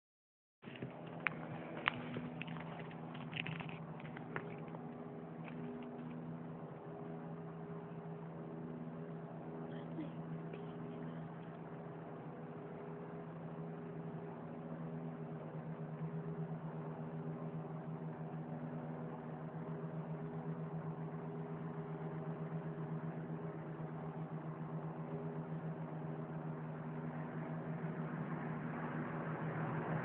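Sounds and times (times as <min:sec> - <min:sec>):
droning hum in the sky: 0:00.6 - 0:30.0.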